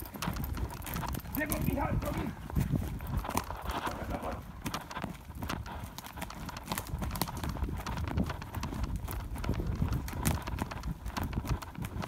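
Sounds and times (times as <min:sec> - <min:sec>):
running footsteps on twigs and needles: 0:00.0 - 0:12.0.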